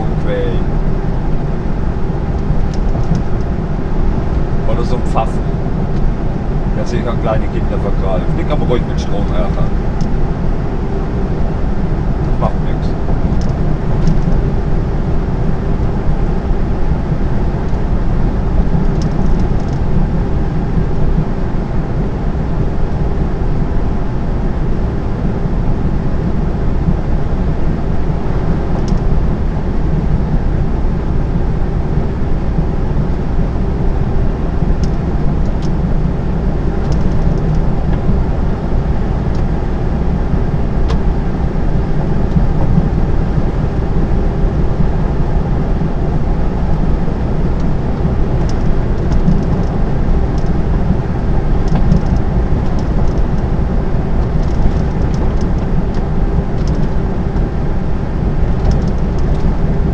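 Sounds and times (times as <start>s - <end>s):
lorry engine drone: 0.0s - 59.9s
road noise: 0.0s - 59.9s.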